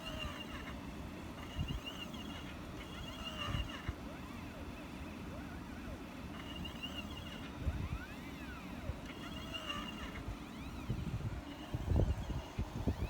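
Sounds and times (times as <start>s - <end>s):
stepper motors whining: 0.0s - 13.0s.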